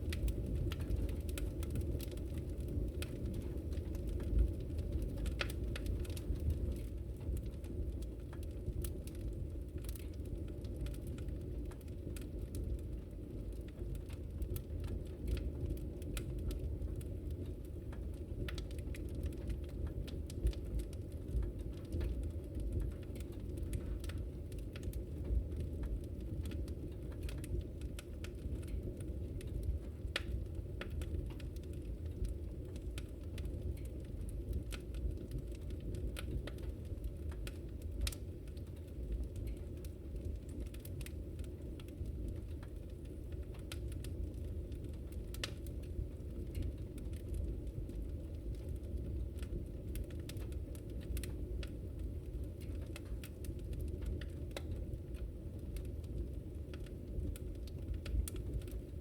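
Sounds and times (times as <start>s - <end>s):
fire crackling pops: 0.0s - 59.0s
low rumble of flames: 0.0s - 59.0s.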